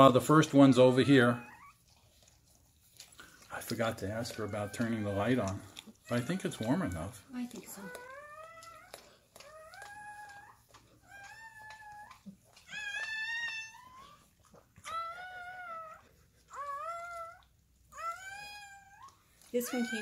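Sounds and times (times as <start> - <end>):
puppy crying: 0.1 - 2.0, 3.6 - 20.0.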